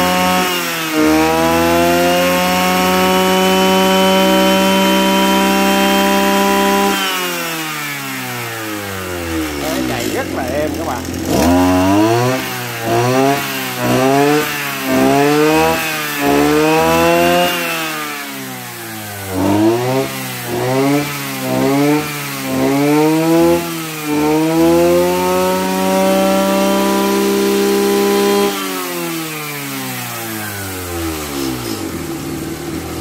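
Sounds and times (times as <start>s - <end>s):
brush cutter engine revving: 0.0s - 33.0s.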